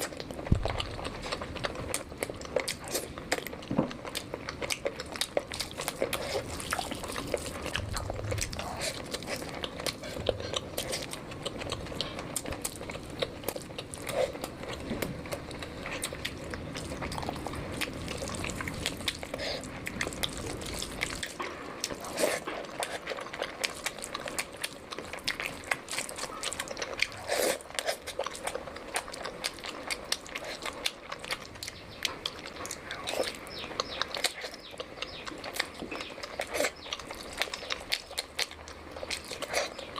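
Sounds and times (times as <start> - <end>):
person chewing and biting: 0.0 - 39.9.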